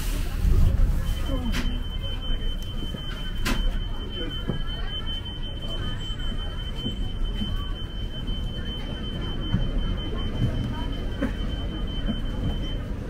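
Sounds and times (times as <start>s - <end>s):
bus interior rumble: 0.0s - 13.0s.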